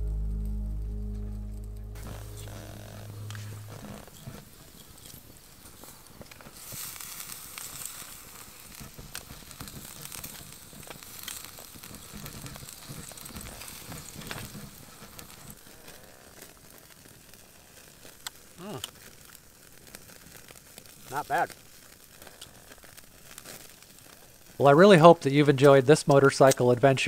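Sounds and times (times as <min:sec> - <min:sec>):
food sizzling in frying pan: 0:02.1 - 0:24.7.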